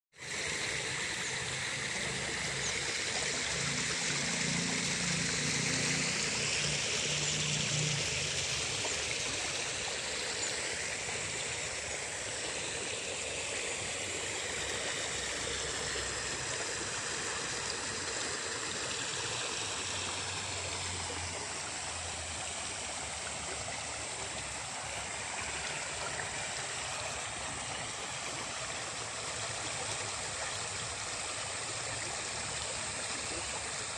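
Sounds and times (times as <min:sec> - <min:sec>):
water running along ditch: 0:00.1 - 0:33.9.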